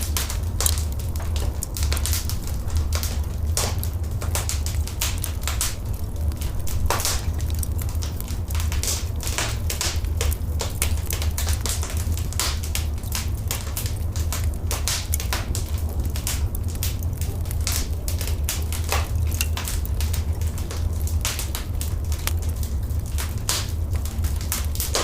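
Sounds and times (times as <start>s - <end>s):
fire pops: 0.0s - 25.0s
low rumble: 0.0s - 25.0s
wood fire crackling: 0.0s - 25.0s.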